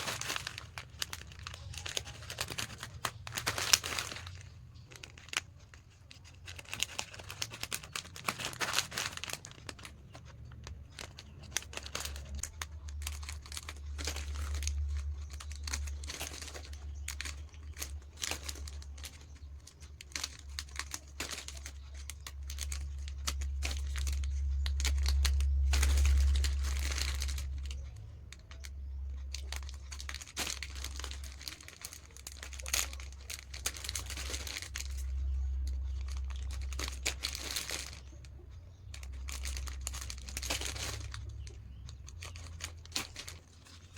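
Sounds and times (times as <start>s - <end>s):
plastic packets crinkling: 0.0s - 43.9s.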